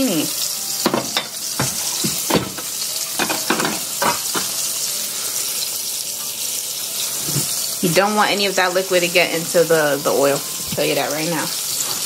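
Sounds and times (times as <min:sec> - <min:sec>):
oil sizzling in frying pan: 0:00.0 - 0:12.0.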